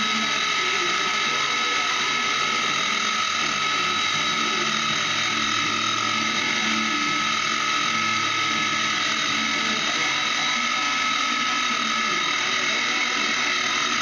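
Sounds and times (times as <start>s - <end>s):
milling machine whining and cutting: 0.0s - 14.0s.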